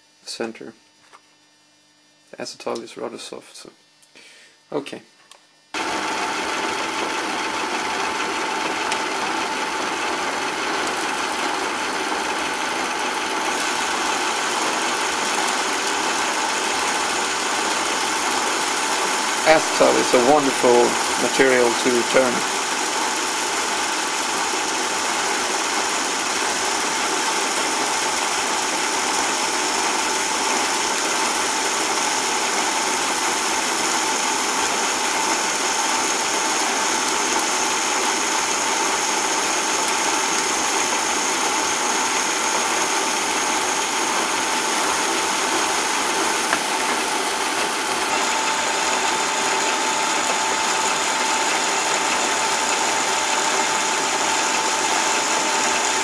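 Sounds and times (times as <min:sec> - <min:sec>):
lathe cutting plastic rod: 0:05.8 - 0:56.0.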